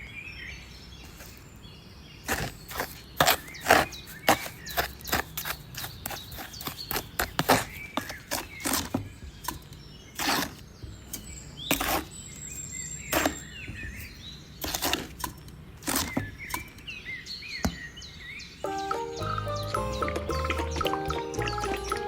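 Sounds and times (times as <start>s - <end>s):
birds chirping: 0.0s - 14.6s, 16.0s - 22.0s.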